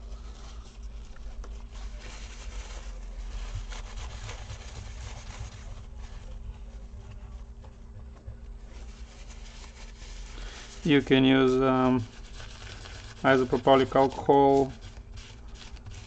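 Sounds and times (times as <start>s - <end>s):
tissue rubbing on circuit board: 0.0s - 7.6s, 8.4s - 16.0s.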